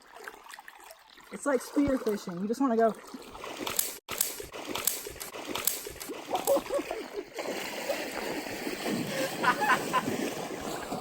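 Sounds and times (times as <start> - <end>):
creek water splashing: 0.0 - 11.0
stream trickling: 0.0 - 11.0.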